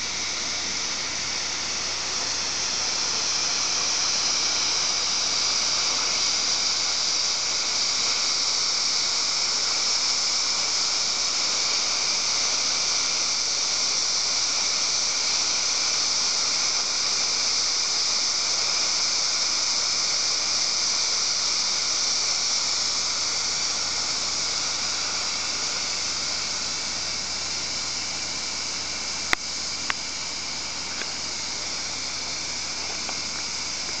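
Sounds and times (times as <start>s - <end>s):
steam hissing from pressure valve: 0.0s - 34.0s.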